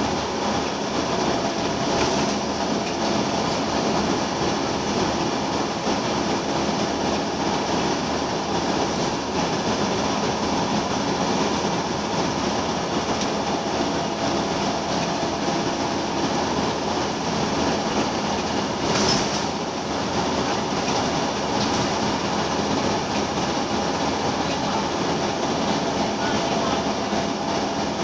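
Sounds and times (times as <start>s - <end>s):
bus diesel engine running: 0.0s - 28.0s
road noise: 0.0s - 28.0s.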